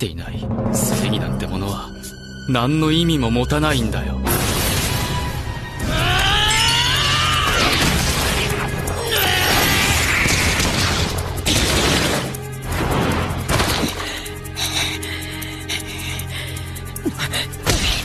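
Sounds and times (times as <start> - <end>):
dramatic background music: 0.0 - 18.0.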